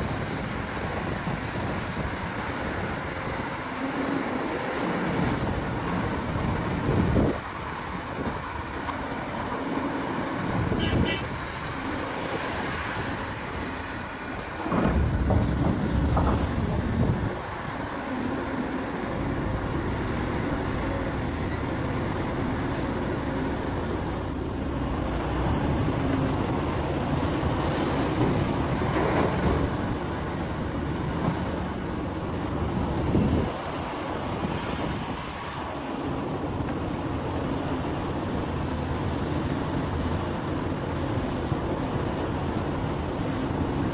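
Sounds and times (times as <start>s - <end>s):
excavator diesel engine drone: 0.0s - 43.9s.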